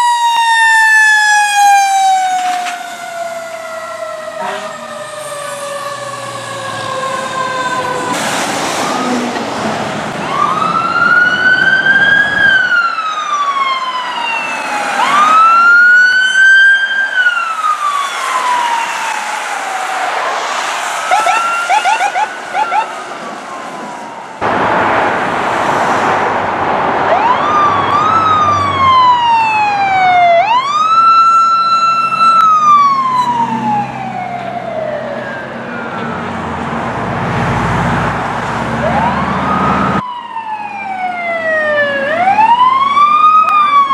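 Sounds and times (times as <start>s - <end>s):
siren yelping: 0.0s - 8.2s, 8.8s - 9.5s, 10.2s - 24.4s, 27.1s - 36.6s, 38.8s - 43.9s
sirens wailing: 0.0s - 43.9s.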